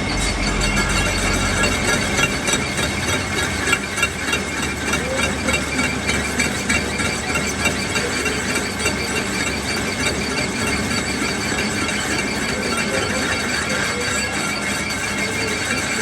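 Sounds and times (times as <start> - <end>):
lathe tool squealing on metal: 0.0 - 16.0.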